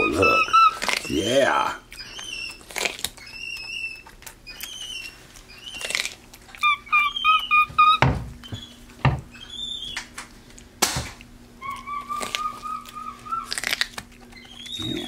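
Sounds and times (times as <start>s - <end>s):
monkey chirping: 0.0s - 10.0s, 11.6s - 15.0s.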